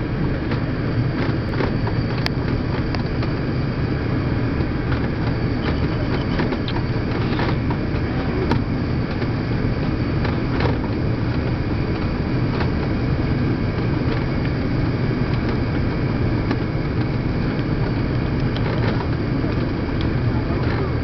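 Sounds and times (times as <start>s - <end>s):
airliner cabin drone: 0.0s - 21.0s.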